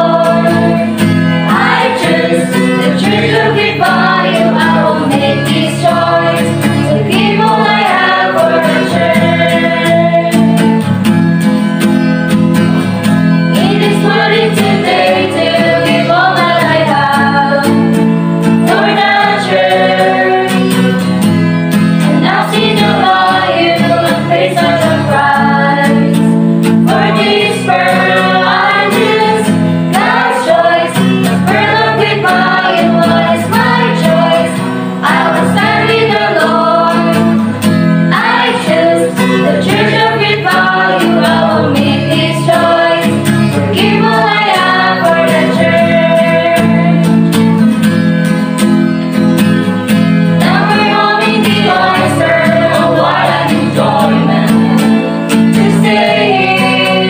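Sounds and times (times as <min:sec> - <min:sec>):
group singing a hymn: 0:00.0 - 0:10.9, 0:13.5 - 0:47.7, 0:50.3 - 0:57.0
strummed acoustic guitar: 0:00.0 - 0:57.0
ukulele: 0:00.0 - 0:57.0.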